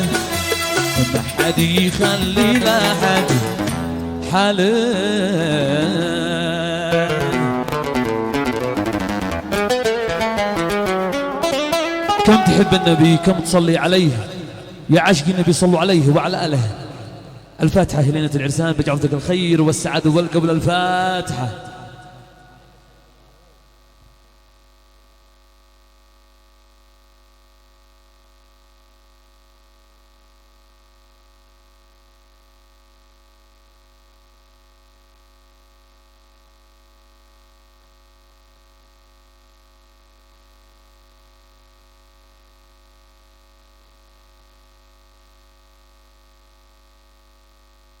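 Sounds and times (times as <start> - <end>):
electrical mains hum: 0.0 - 48.0.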